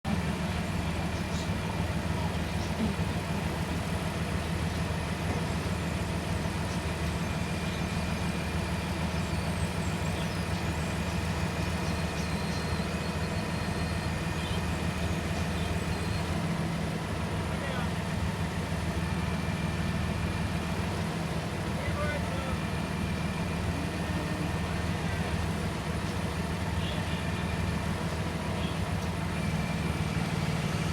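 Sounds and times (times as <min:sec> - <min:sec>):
heavy truck engine idling: 0:00.0 - 0:30.9.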